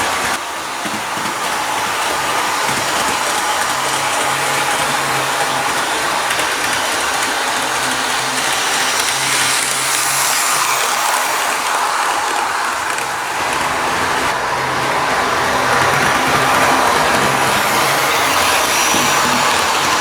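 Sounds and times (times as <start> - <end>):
model train motor whirring: 0.0 - 20.0.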